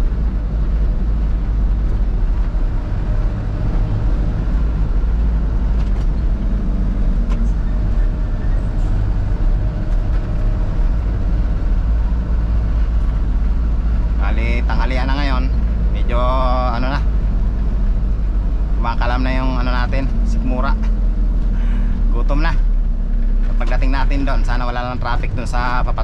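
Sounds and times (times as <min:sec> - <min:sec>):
diesel engine cruising: 0:00.0 - 0:26.0
road and tyre rumble: 0:00.0 - 0:26.0.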